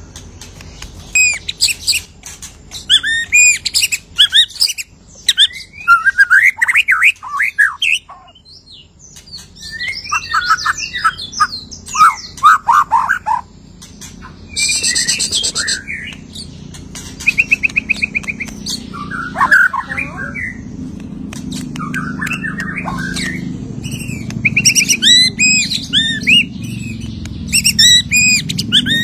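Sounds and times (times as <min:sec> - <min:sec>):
bird singing varied song: 0:00.0 - 0:29.0.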